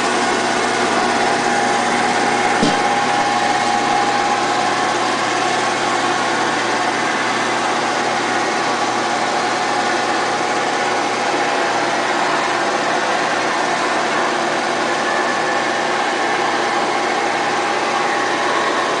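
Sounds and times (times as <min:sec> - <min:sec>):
disc sander humming and whining: 0:00.0 - 0:19.0.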